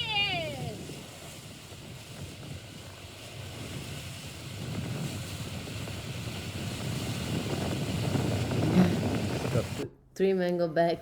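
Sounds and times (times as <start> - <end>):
rushing water and waves: 0.0 - 9.8
wind buffeting microphone: 0.0 - 9.8.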